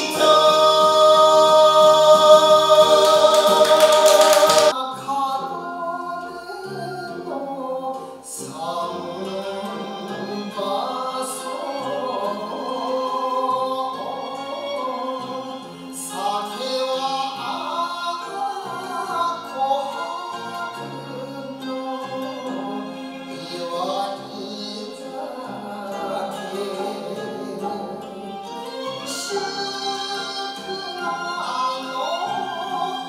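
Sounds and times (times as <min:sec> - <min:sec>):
man singing with band: 0:00.0 - 0:33.0
soft song with wavering melody: 0:00.0 - 0:33.0.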